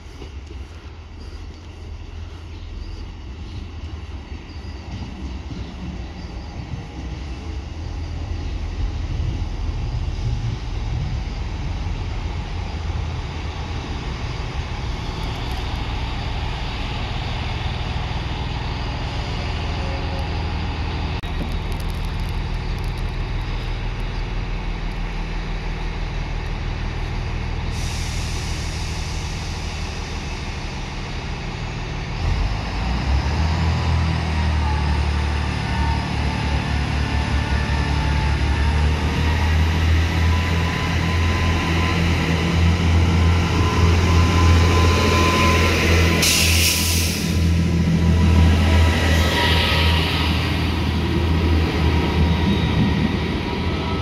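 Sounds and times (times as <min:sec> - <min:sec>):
diesel train engines running: 0:00.0 - 0:54.0.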